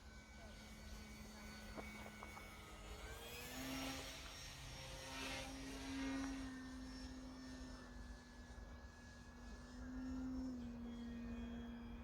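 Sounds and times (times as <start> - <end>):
model plane electric motor whine: 0.0 - 12.0.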